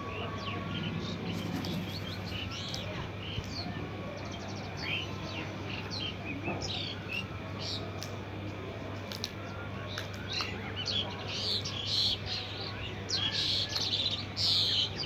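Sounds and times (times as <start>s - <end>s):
small birds chirping: 0.4s - 8.1s, 9.5s - 15.0s.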